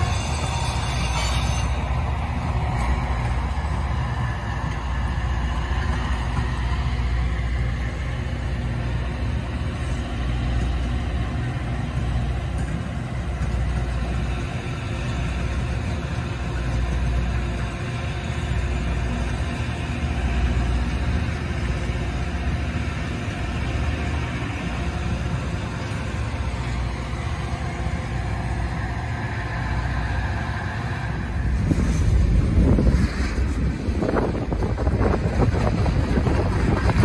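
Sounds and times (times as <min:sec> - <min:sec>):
vehicle engines rumbling: 0:00.0 - 0:37.0.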